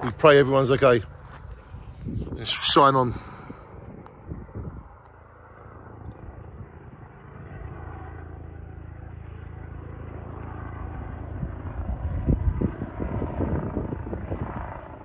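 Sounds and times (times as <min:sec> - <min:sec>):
helicopter rumble: 0:00.0 - 0:15.0.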